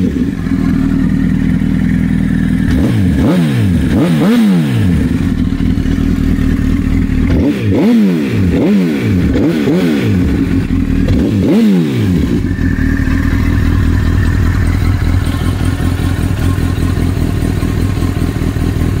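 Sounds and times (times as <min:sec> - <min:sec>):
motorcycle engine revving and idling: 0:00.0 - 0:19.0.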